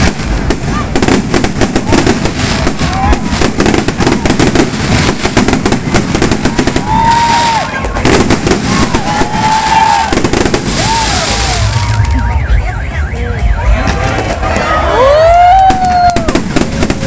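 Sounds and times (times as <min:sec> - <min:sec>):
firework whistles: 0:00.0 - 0:17.0
fireworks crackling and popping: 0:00.0 - 0:17.0.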